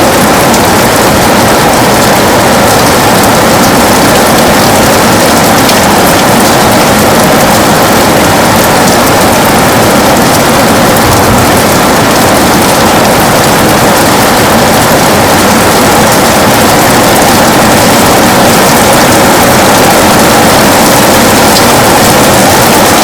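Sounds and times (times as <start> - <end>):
heavy rain on a window: 0.0 - 23.0.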